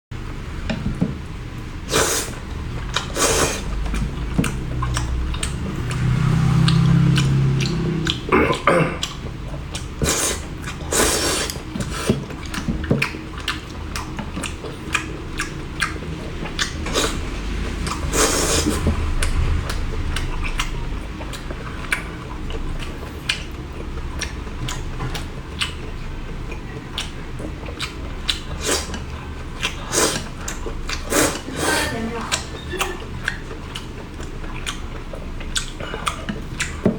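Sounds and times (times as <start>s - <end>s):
chewing: 1.8s - 36.9s.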